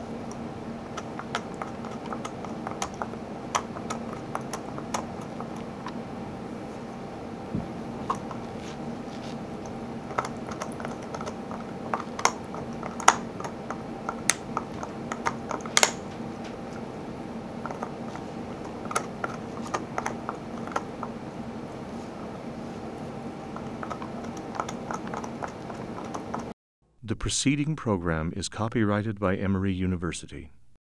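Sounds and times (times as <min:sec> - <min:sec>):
steady low hum: 0:00.0 - 0:30.8.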